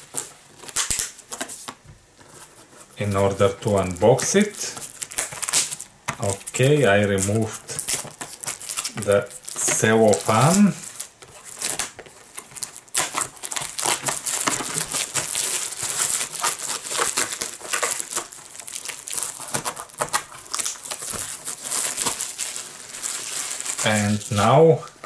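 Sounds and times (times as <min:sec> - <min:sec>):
cellophane wrapper crinkling: 0:00.0 - 0:25.0.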